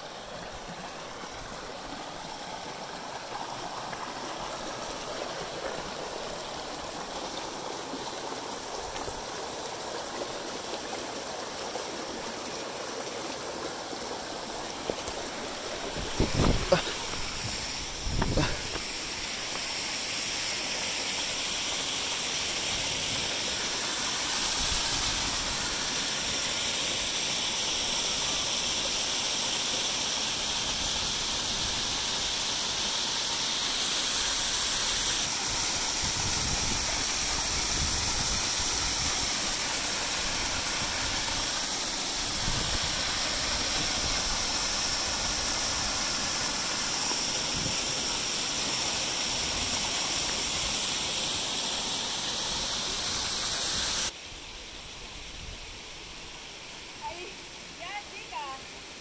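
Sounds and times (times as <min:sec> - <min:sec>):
waterfall rushing: 0:00.0 - 0:54.2.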